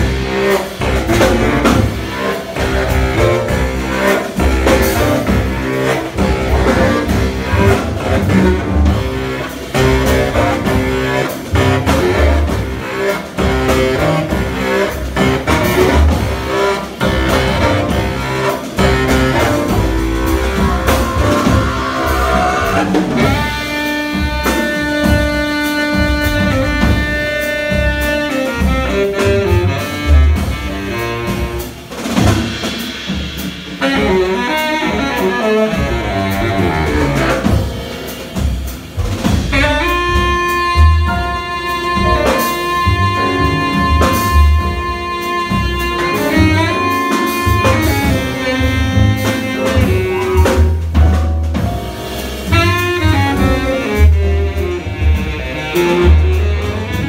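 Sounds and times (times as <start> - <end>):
baritone saxophone: 0.0 - 32.7, 33.8 - 57.0
double bass: 0.0 - 57.0
drum kit: 0.0 - 57.0
piano: 0.0 - 57.0.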